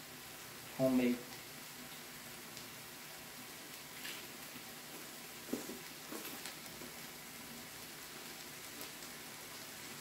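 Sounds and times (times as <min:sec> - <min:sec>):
meat sizzling on a grill: 0:00.0 - 0:10.0.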